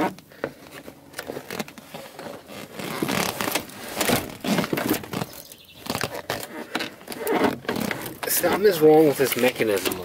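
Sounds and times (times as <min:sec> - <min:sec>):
rustling and scraping upholstery: 0:00.0 - 0:10.0.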